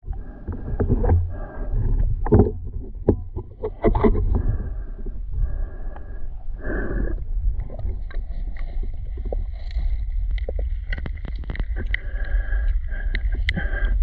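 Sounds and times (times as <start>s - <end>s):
muffled underwater river rumble: 0.0s - 14.0s.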